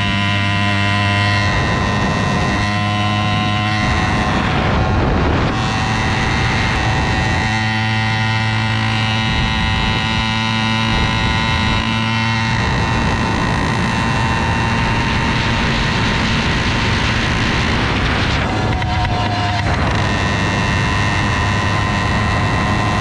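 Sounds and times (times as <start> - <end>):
two-stroke engine running: 0.0 - 23.0.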